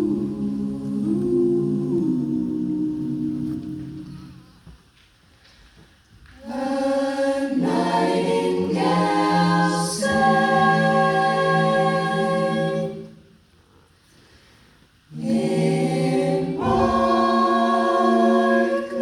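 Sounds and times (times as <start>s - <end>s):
vocal ensemble singing in harmony: 0.0s - 4.7s, 6.4s - 13.5s, 15.1s - 19.0s.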